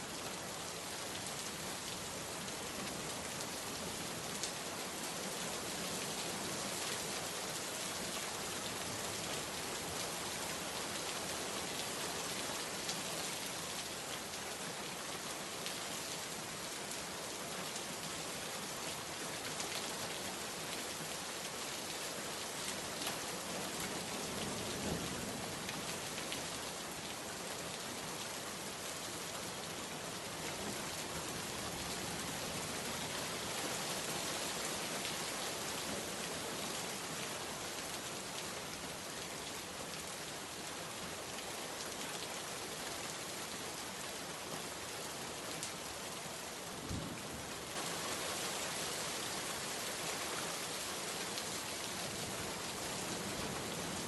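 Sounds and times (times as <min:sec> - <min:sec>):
heavy rain falling: 0:00.2 - 0:54.0.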